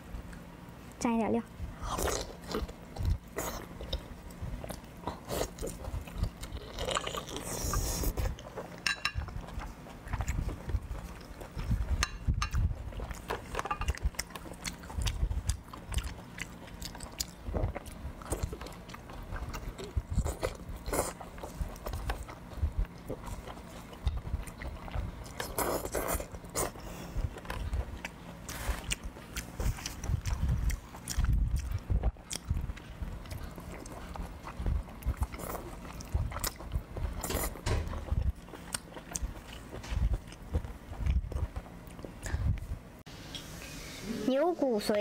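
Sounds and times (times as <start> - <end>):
biting and chewing meat: 1.8 - 42.7.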